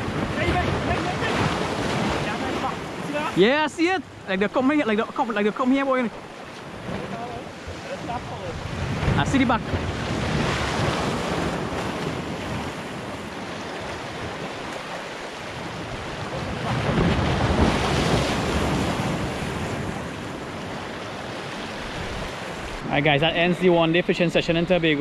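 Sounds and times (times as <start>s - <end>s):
wind rumbling on microphone: 0.0s - 3.4s, 6.2s - 25.0s.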